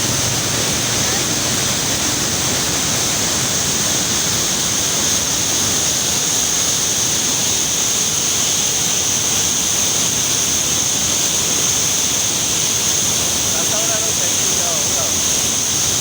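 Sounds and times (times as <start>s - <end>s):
river water rushing through gates: 0.0s - 16.0s.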